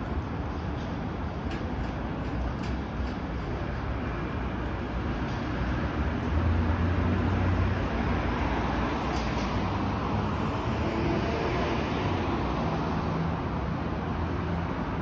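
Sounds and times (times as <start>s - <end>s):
steady traffic hum: 0.0s - 15.0s
vehicle low rumble: 0.0s - 15.0s.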